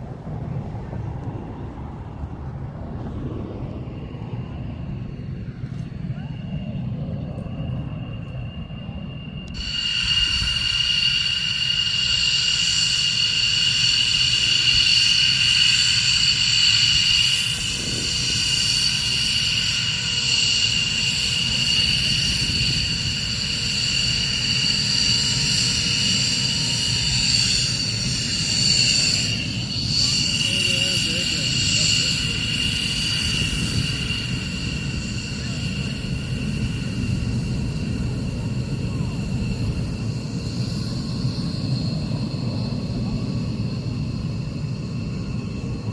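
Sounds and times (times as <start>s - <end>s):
high multi-tone engine whine: 0.0s - 45.9s
jet engines rumbling: 0.0s - 45.9s.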